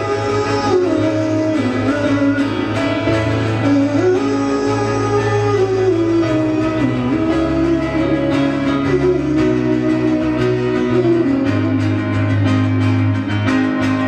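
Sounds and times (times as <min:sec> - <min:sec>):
acoustic guitar strumming: 0:00.0 - 0:14.0
sustained low bass notes: 0:00.0 - 0:14.0.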